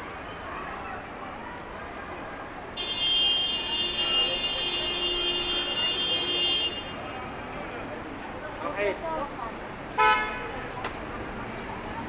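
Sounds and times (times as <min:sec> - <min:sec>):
busy street hum: 0:00.0 - 0:12.0.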